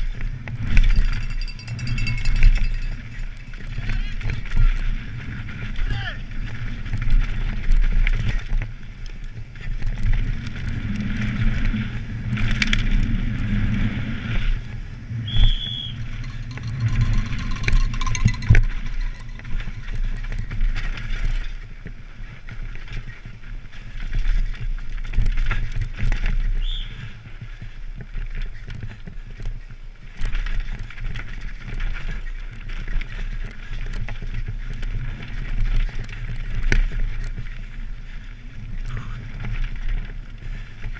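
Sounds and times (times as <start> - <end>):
mountain bike rattling over bumps: 0.0 - 40.9.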